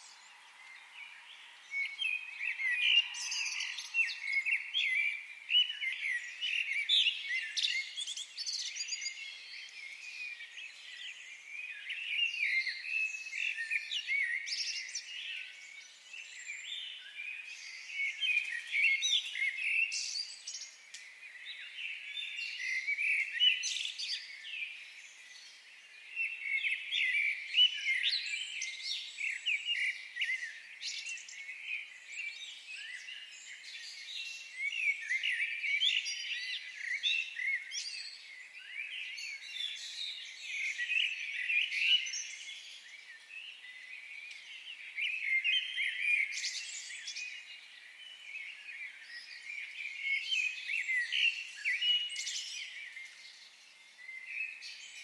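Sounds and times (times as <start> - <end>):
small birds chirping and trilling: 0.0 - 55.0.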